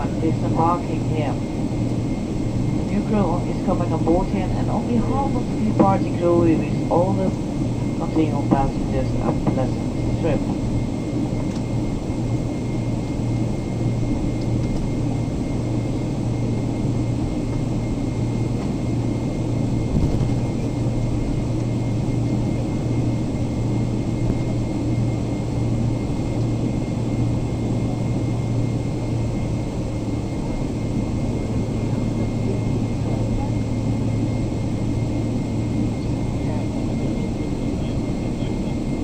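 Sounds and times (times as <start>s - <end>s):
airplane cabin hum: 0.0s - 39.0s.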